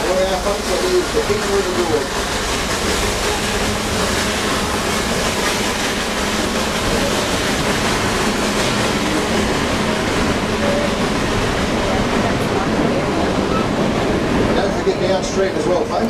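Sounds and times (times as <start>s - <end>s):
train carriage running noise: 0.0s - 16.0s.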